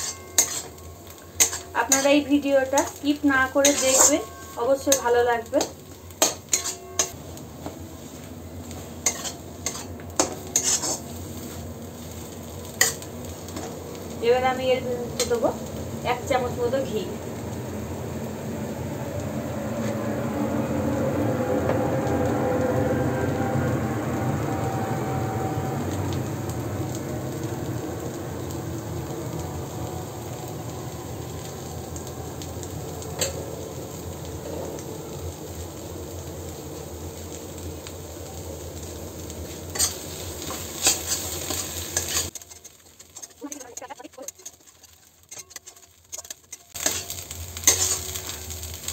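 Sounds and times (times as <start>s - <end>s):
paste sizzling in hot oil: 0.0s - 18.9s, 23.1s - 48.9s.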